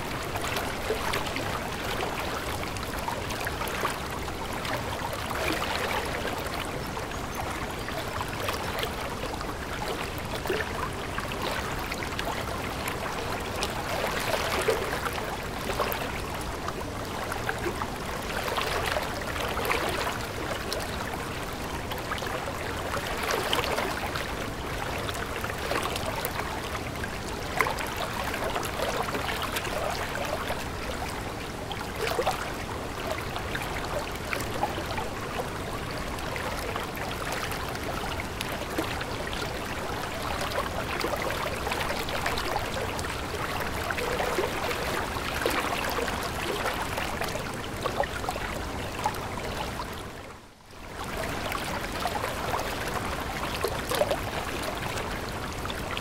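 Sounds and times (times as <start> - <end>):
river flowing gently: 0.0 - 56.0
small water splashes: 7.4 - 50.3, 50.9 - 56.0.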